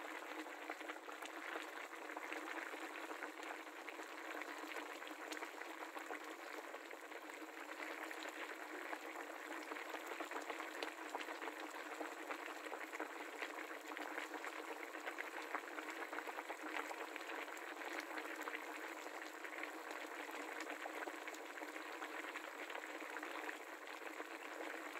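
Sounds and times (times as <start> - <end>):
broth boiling with small pops: 0.0 - 24.9.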